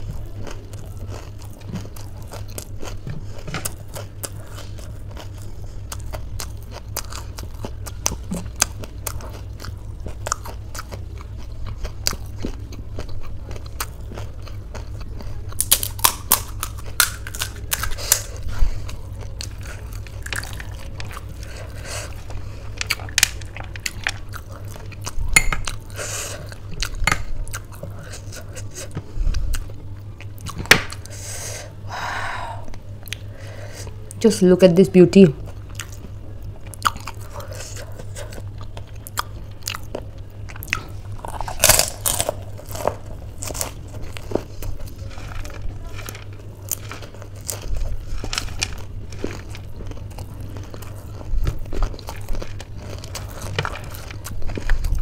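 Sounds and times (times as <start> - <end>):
crisp shells crackling and crunching: 0.0 - 29.0, 35.4 - 55.0.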